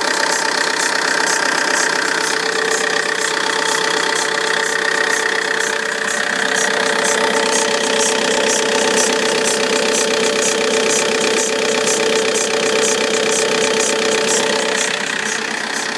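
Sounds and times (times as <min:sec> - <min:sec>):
diesel engine idling with whine: 0:00.0 - 0:15.9
high ticking: 0:00.0 - 0:15.9.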